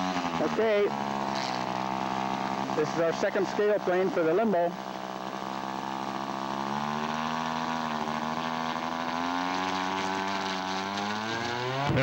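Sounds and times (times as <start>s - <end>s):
model seaplane engine running: 0.0s - 12.0s.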